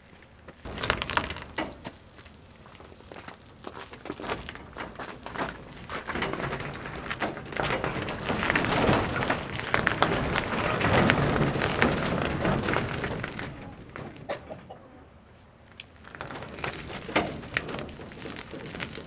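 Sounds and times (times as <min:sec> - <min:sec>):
cart crunching over icy ground: 0:00.0 - 0:14.6, 0:15.6 - 0:19.0.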